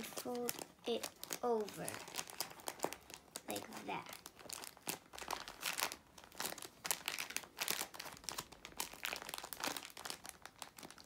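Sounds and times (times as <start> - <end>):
paper and tape crinkling: 0.0 - 11.0.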